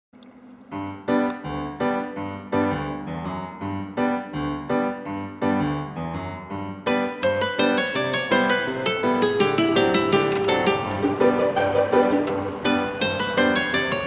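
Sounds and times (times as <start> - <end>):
gentle keyboard melody: 0.6 - 14.0.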